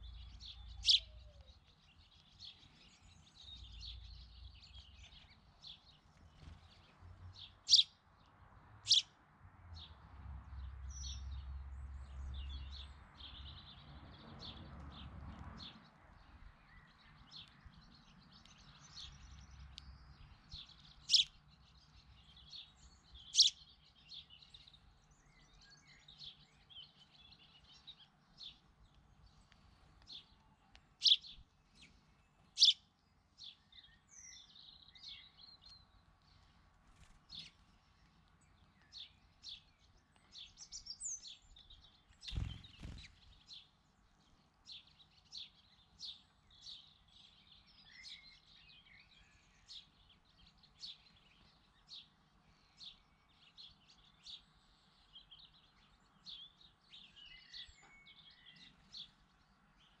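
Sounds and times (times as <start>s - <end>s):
small birds chirping: 0.0s - 60.0s.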